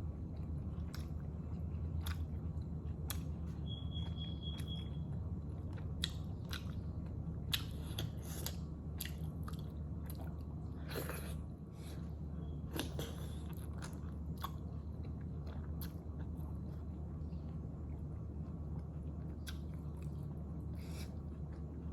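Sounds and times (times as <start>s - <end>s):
low hum: 0.0s - 21.9s
chewing and mouth smacks: 0.3s - 11.4s, 12.7s - 17.6s, 18.4s - 21.9s.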